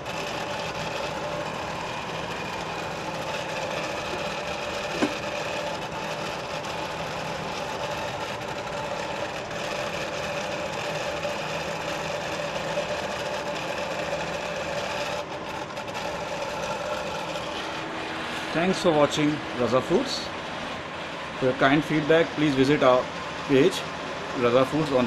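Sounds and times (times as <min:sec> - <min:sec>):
machine hum with held tones: 0:00.0 - 0:25.0.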